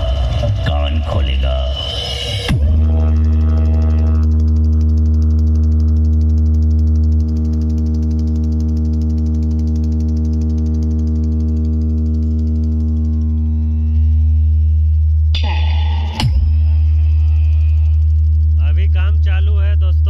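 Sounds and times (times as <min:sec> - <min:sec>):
deep bass note with buzzing pulse: 0:00.0 - 0:20.0.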